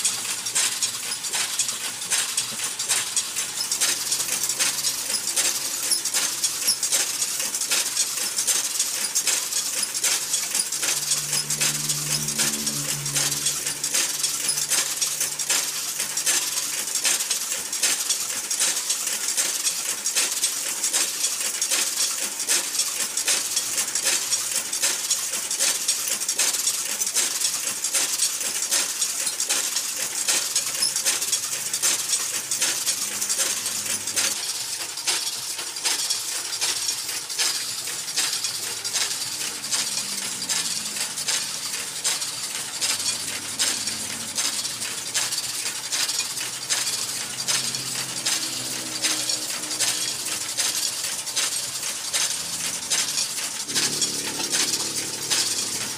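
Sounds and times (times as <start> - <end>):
machine clattering metallic clicks: 0.0 - 55.9.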